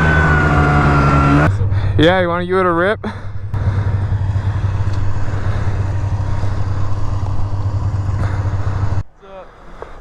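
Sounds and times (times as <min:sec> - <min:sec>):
snowmobile engine running: 0:00.0 - 0:09.0.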